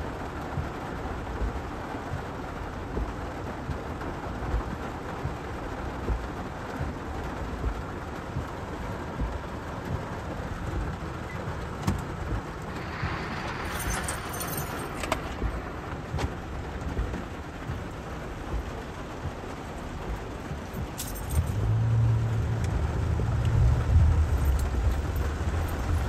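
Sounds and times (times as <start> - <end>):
heavy rain on car roof: 0.0 - 26.0
low road rumble: 0.0 - 26.0.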